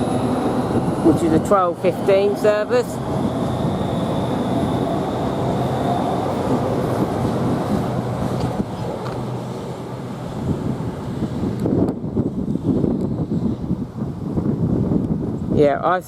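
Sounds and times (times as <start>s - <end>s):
train rail rumble: 0.0s - 15.4s.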